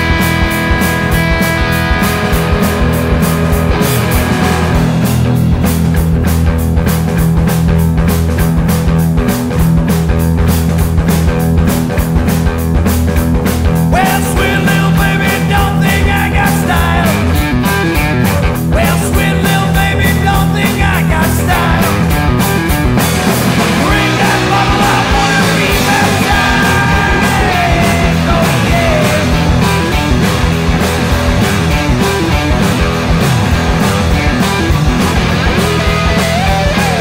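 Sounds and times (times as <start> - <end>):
gliding electric guitar lead: 0.0 - 37.0
loud rock music: 0.0 - 37.0.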